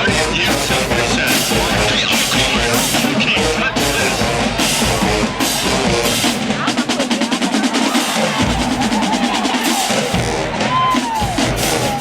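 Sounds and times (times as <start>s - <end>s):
brass marching band playing: 0.0s - 12.0s
snare drum roll: 0.3s - 12.0s.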